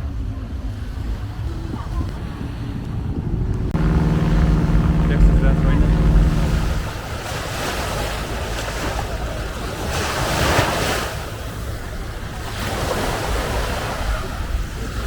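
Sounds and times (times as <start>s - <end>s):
wind buffeting microphone: 0.6s - 15.0s
ocean waves breaking: 0.8s - 15.0s.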